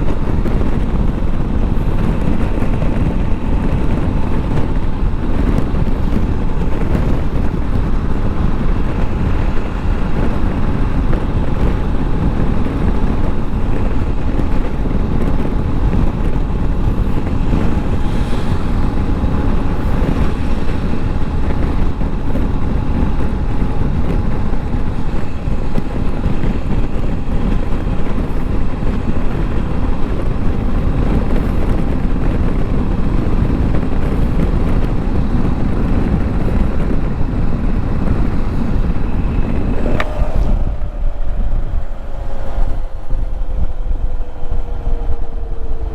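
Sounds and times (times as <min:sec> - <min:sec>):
motorcycle engine drone: 0:00.0 - 0:45.9
wind rushing over microphone: 0:00.0 - 0:45.9.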